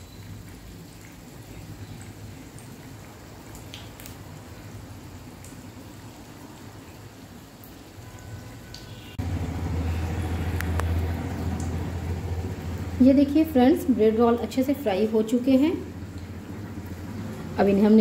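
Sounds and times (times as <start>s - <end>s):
oil sizzling while deep-frying: 0.0s - 18.0s.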